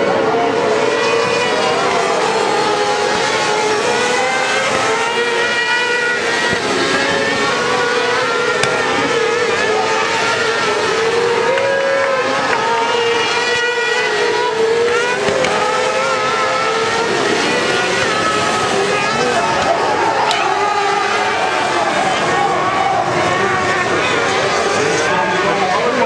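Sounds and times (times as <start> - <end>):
buggy engines revving: 0.0 - 26.0.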